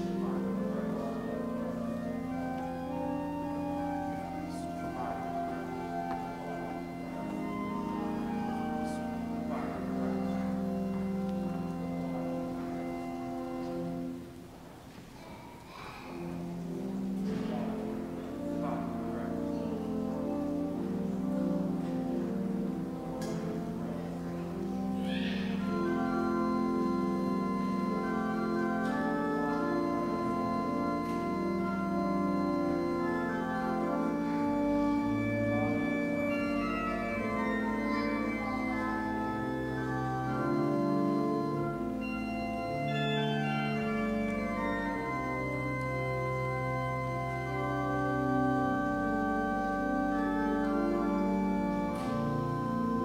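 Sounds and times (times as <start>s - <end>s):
church organ chords: 0.0s - 14.9s, 15.8s - 53.0s.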